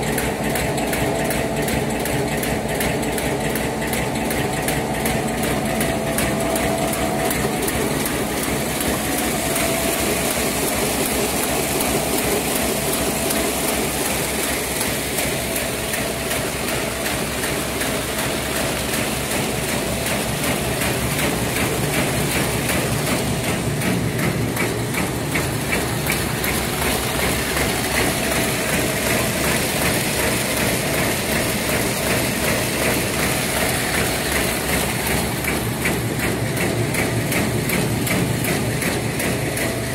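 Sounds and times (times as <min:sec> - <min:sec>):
paper bag machine clattering: 0:00.0 - 0:39.9.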